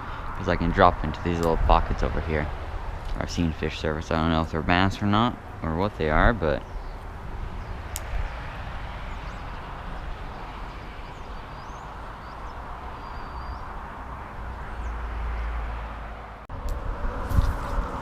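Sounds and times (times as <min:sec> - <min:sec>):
rumble of passing vehicles: 0:00.0 - 0:18.0.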